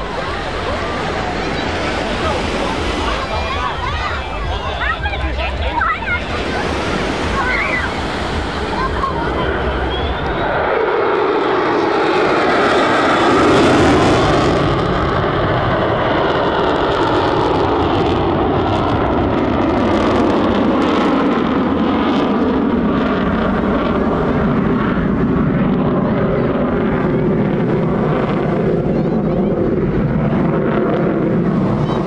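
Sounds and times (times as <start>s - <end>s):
jet engine afterburner roar: 0.0s - 32.0s.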